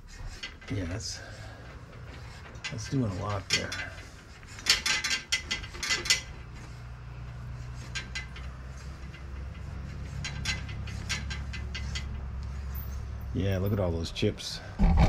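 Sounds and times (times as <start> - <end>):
metal tap clicking and creaking: 0.0 - 13.3.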